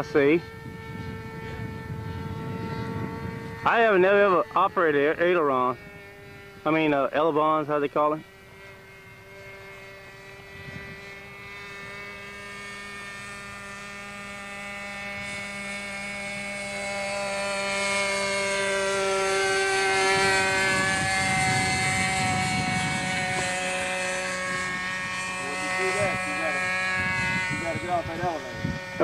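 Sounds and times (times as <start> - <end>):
model airplane engine flying by: 0.0 - 29.0.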